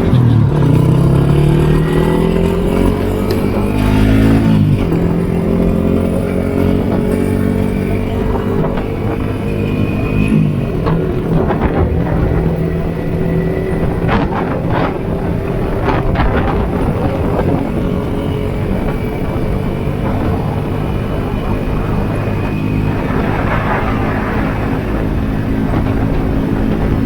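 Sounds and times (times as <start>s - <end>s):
gusts of noise: 0.0s - 27.0s
motorcycle engine running: 0.0s - 27.0s.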